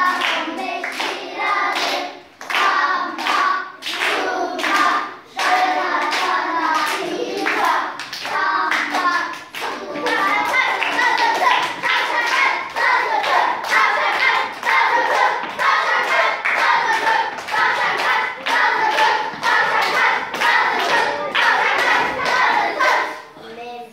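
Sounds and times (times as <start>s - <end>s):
children clapping: 0.0s - 23.2s
children singing in unison: 0.0s - 23.4s.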